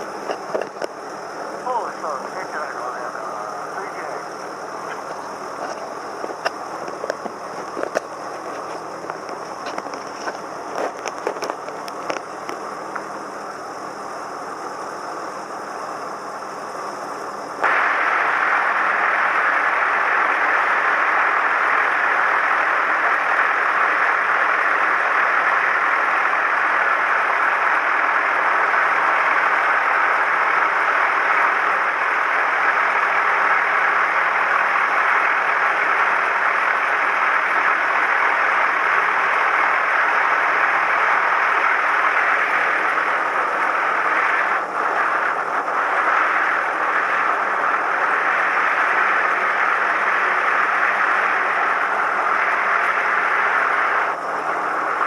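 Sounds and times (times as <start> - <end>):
aircraft engine droning in cabin: 0.0 - 55.0.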